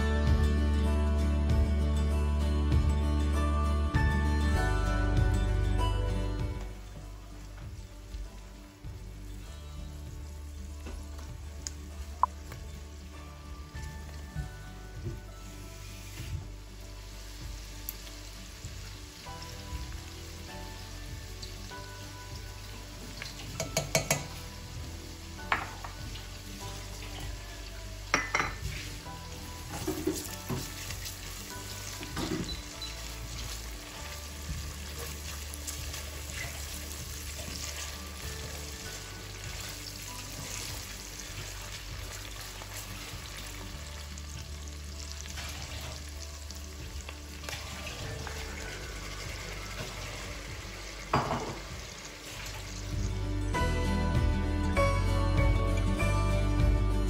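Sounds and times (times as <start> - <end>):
food sizzling in hot fat: 6.6 - 53.6.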